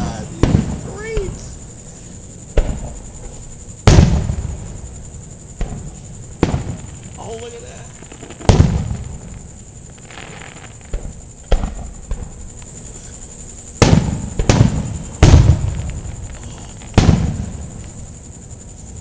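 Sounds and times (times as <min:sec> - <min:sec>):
fireworks booming: 0:00.0 - 0:18.7
fireworks crackling: 0:00.0 - 0:19.0.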